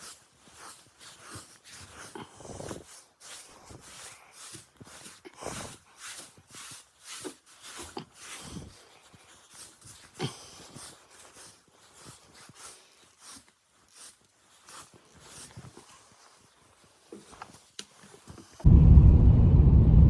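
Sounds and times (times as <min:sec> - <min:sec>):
soft rustling: 0:00.0 - 0:18.7.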